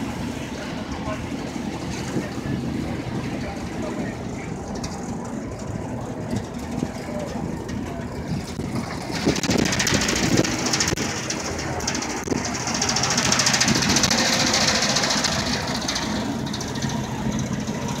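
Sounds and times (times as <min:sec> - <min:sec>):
boat engine rumbling: 0:00.0 - 0:18.0
helicopter overhead: 0:00.0 - 0:18.0.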